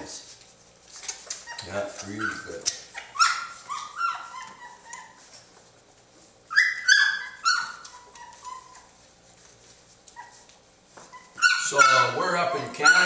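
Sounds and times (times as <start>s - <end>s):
puppies yelping and squealing: 0.9s - 13.0s.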